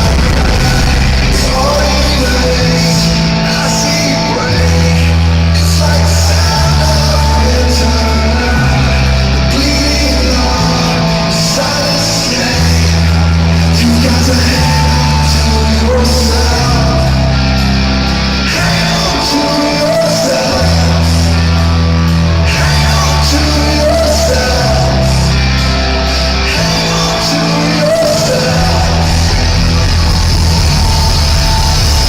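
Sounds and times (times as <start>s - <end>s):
live rock band playing: 0.0s - 32.0s
person singing: 0.0s - 32.0s.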